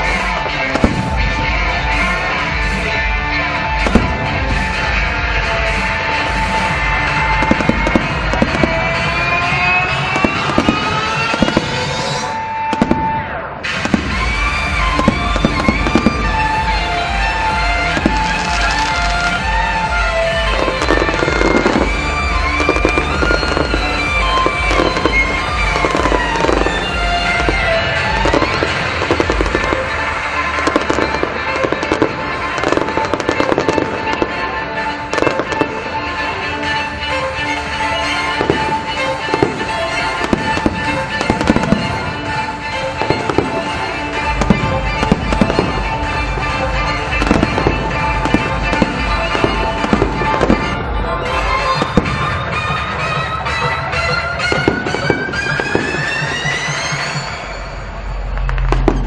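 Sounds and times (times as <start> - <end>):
fireworks bangs and crackles: 0.0 - 59.0
music playing: 0.0 - 59.0.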